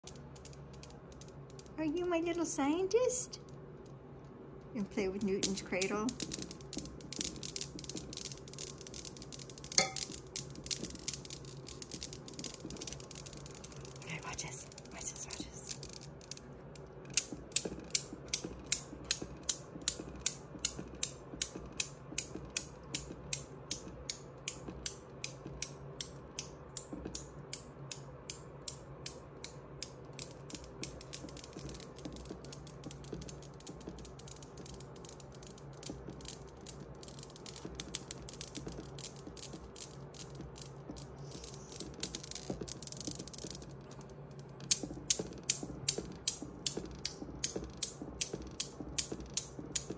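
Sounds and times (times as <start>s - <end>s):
newton's cradle balls clicking: 0.0s - 49.9s.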